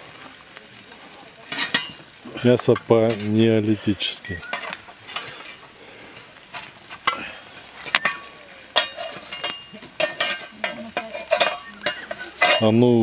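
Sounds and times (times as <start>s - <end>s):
shovel scraping hot stones: 0.0s - 13.0s
steady hiss from pit: 0.0s - 13.0s.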